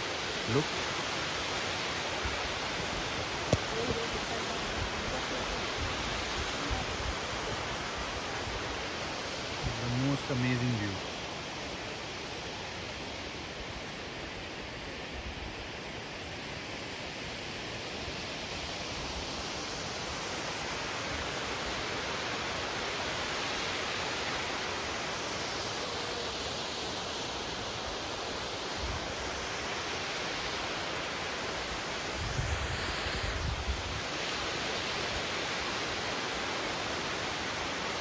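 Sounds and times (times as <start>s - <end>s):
waterfall rushing: 0.0s - 14.0s, 18.8s - 38.0s.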